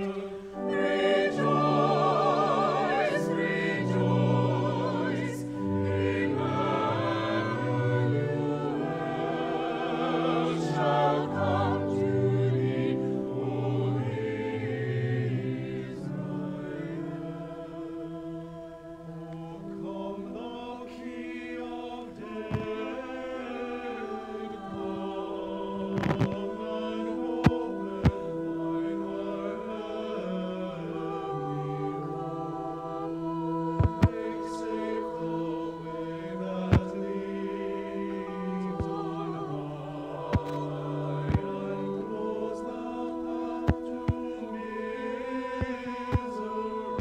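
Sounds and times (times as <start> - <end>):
church choir singing: 0.0 - 47.0
sustained organ notes: 0.0 - 47.0.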